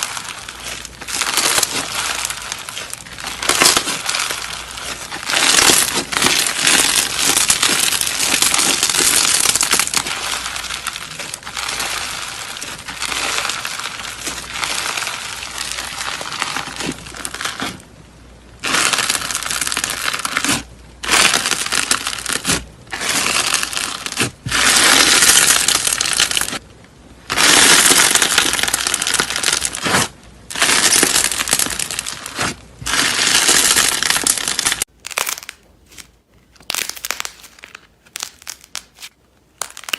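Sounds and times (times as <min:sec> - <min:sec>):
slime crackling and crunching: 0:00.0 - 0:39.9.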